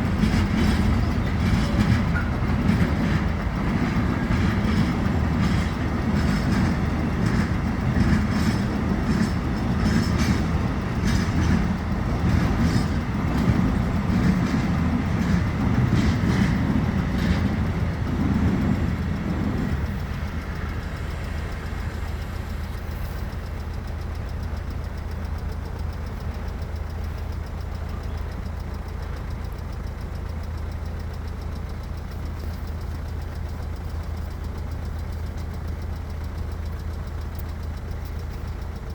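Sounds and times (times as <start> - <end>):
low engine idling: 0.0 - 38.9
train wheels clattering: 0.0 - 38.9.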